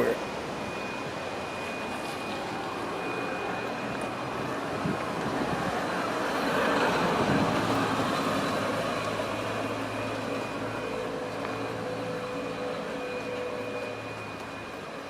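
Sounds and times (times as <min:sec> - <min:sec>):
low engine hum: 0:00.0 - 0:15.0
vehicle passing: 0:00.6 - 0:14.7.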